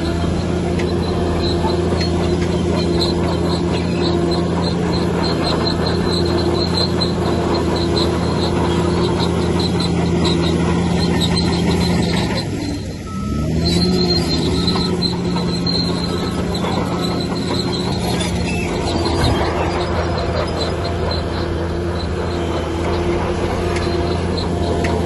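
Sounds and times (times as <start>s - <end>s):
heavy machine engine running: 0.0s - 25.0s
rapid high squeak: 0.0s - 25.0s.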